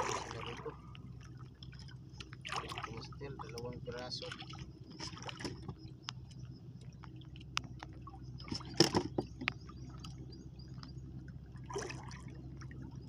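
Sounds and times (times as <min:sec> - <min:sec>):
steady low hum: 0:00.0 - 0:13.0
water sloshing against boat: 0:00.0 - 0:13.0.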